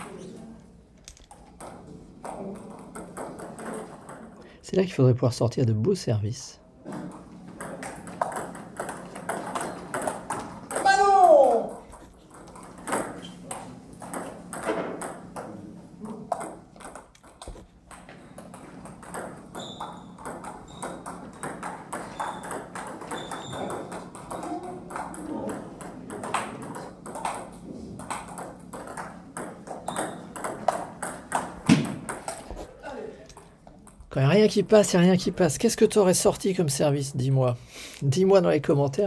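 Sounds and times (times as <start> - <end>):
table tennis balls clicking: 1.0 - 4.4, 6.8 - 35.9.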